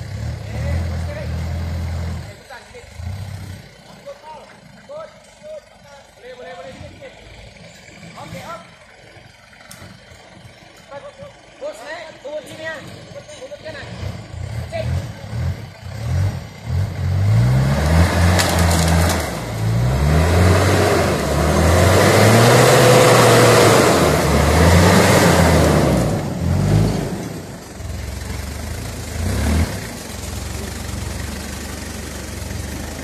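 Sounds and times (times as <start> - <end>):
off-road truck engine revving: 0.0 - 33.0.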